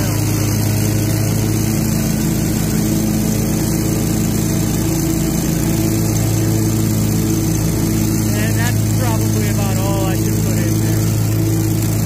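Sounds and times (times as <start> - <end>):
mower engine with leaf blower droning: 0.0 - 12.0.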